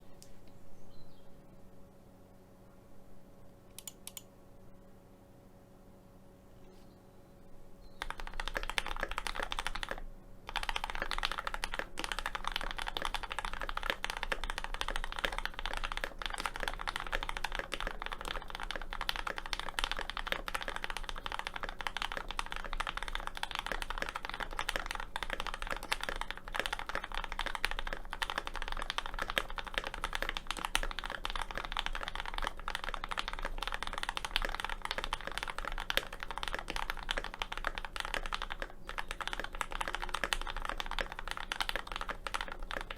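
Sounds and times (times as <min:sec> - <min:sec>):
mechanical keyboard typing: 0:03.8 - 0:04.2, 0:08.0 - 0:42.9.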